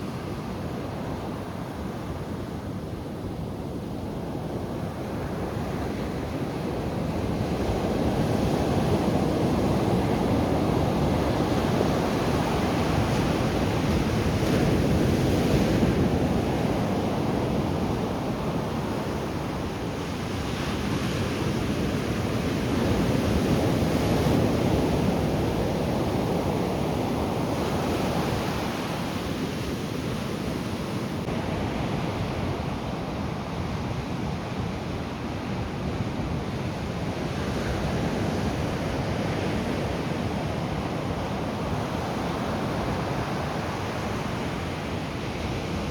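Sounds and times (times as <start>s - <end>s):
waves breaking on beach: 0.0s - 45.9s.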